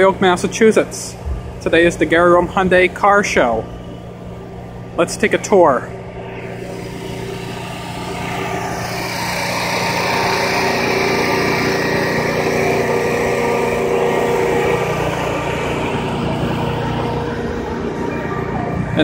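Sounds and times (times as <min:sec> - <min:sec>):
engine humming steadily: 0:00.0 - 0:19.0.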